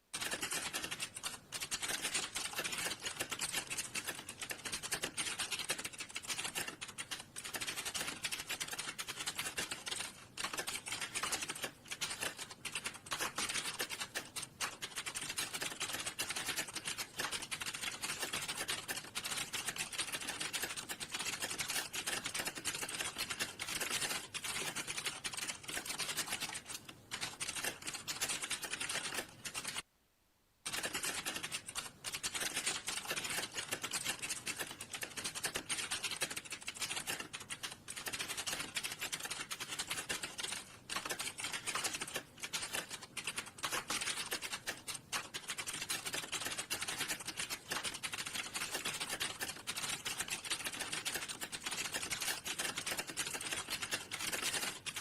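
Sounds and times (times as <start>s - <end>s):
typing on computer keyboard: 0.1s - 29.9s, 30.6s - 55.0s.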